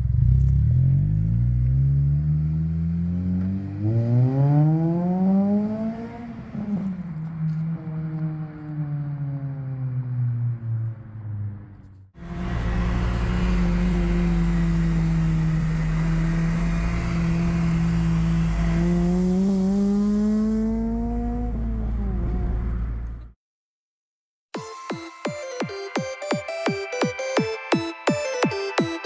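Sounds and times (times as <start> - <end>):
car engine through exhaust: 0.0 - 23.3.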